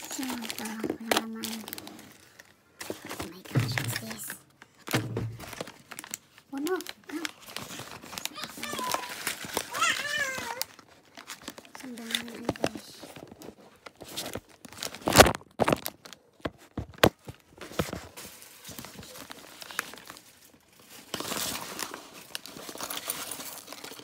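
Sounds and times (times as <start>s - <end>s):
paper bag rustling and crinkling: 0.0s - 24.0s.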